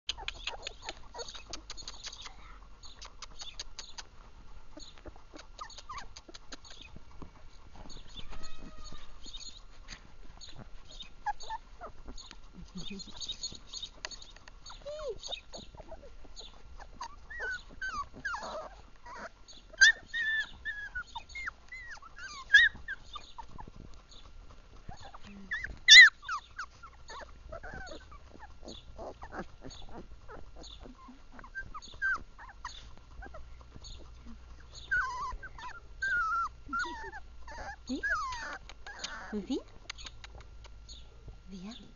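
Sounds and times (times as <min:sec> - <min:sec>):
puppy whimpering: 0:00.1 - 0:24.3, 0:24.9 - 0:40.5.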